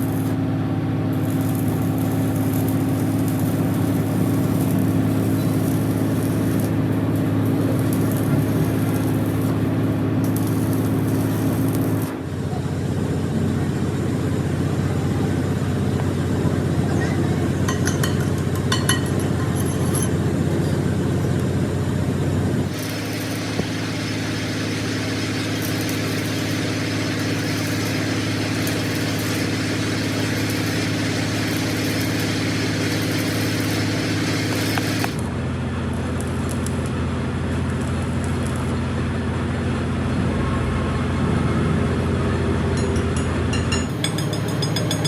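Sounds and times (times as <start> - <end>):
machinery droning: 0.0 - 45.0.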